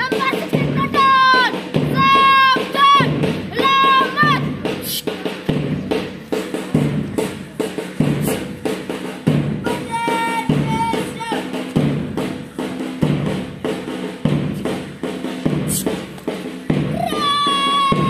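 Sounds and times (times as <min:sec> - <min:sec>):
bass drum beat: 0:00.0 - 0:18.0
snare drum strokes: 0:00.0 - 0:18.0.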